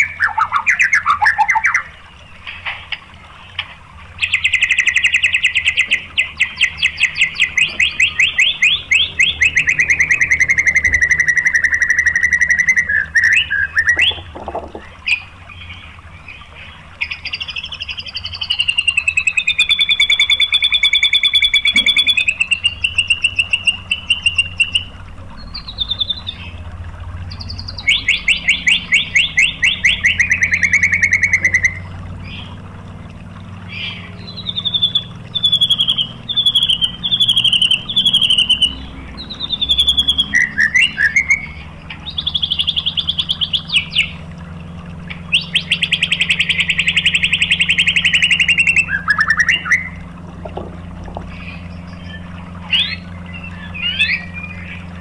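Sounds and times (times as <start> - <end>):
bird singing whistles and trills: 0.0 - 2.6, 4.2 - 32.6, 33.6 - 50.6, 51.3 - 55.0.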